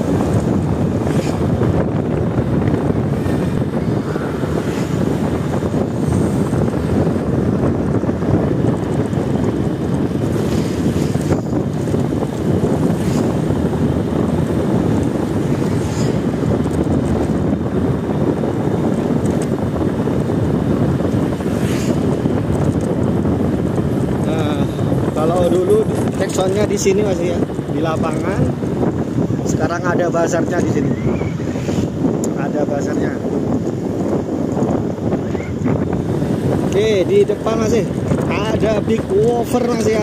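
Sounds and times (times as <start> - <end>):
vehicle running noise: 0.0 - 40.0
wind rumble on microphone: 0.0 - 40.0.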